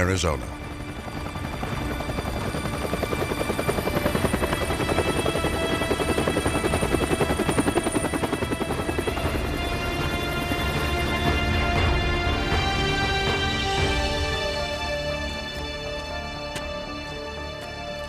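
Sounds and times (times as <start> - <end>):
helicopter rotor blades chopping: 0.0 - 18.0.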